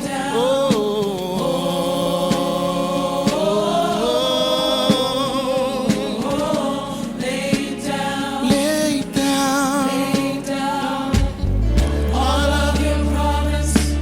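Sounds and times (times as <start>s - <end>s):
gospel choir singing: 0.0s - 14.0s.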